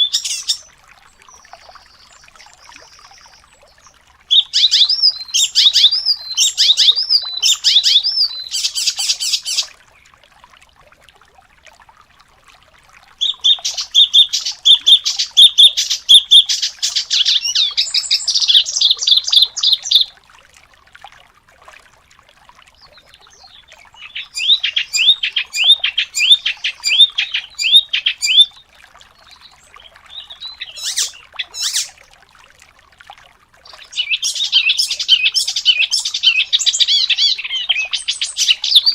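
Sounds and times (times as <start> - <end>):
songbird chirps and trills: 0.0 - 10.2, 13.2 - 20.1, 22.8 - 32.0, 33.6 - 38.9.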